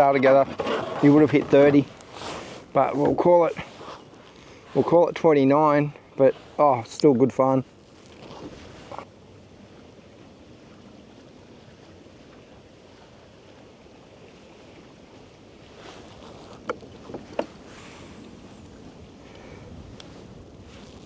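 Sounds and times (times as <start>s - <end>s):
light wind: 0.0s - 21.0s
water noise: 0.0s - 21.0s.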